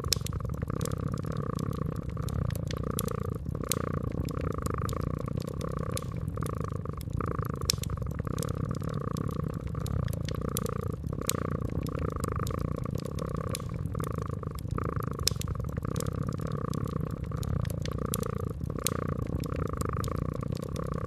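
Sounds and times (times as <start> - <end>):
cat purring: 0.0 - 21.0
wood fire crackling: 0.0 - 21.0.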